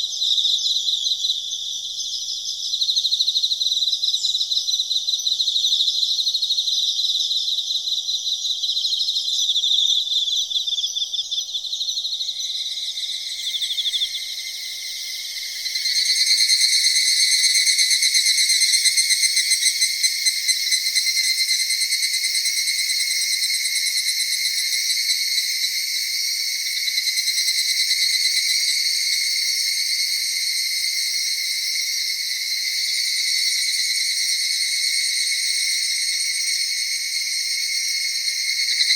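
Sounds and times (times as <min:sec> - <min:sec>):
crickets trilling chorus: 0:00.0 - 0:38.9
lower louder insect trill: 0:00.0 - 0:38.9.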